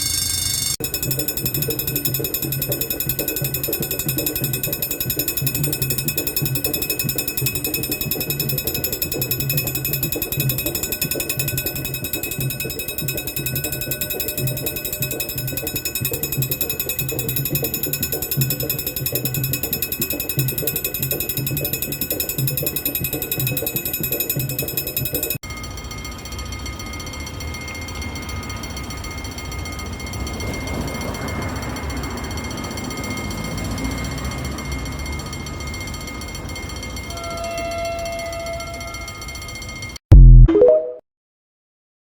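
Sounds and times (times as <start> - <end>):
level-crossing bell ringing: 0.0 - 40.0.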